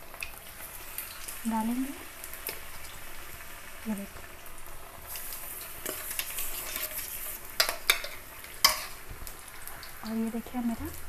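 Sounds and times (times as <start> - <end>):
deep-frying sizzle in hot oil: 0.0 - 11.0.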